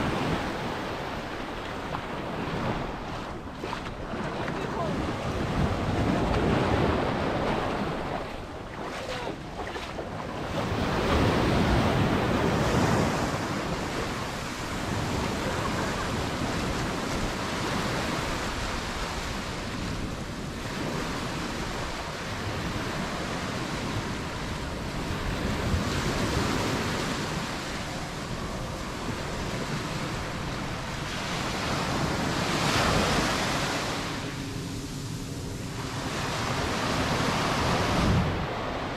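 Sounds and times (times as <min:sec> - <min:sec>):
surf breaking on beach: 0:00.0 - 0:38.9
wind on microphone: 0:00.0 - 0:38.9.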